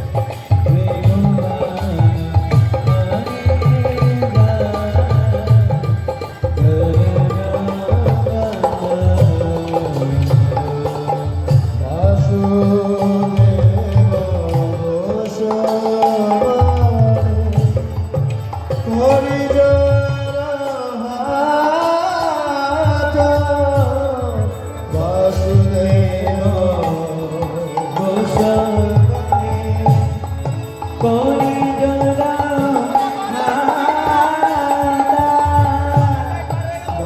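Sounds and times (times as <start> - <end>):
devotional singing: 0.0 - 37.0
hand drum rhythm: 0.0 - 37.0.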